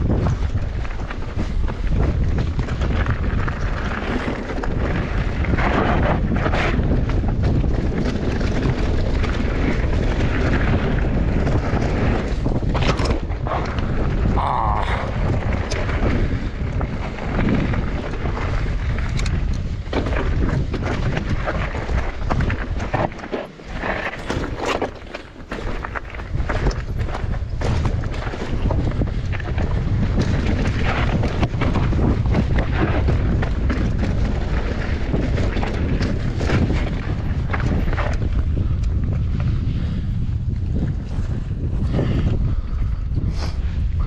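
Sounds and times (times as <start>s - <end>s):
mountain bike rattling: 0.0s - 44.0s
wind buffeting microphone: 0.0s - 44.0s.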